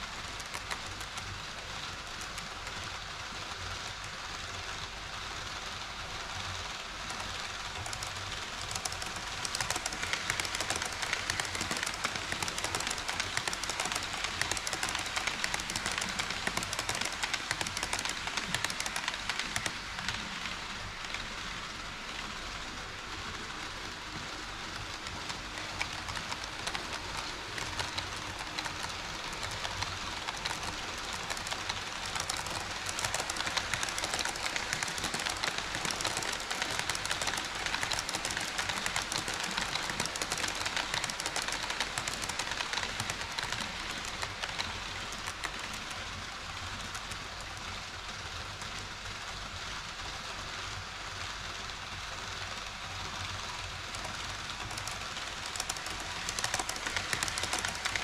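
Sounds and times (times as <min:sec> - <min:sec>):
model train wheels rattling: 0:00.0 - 0:58.0.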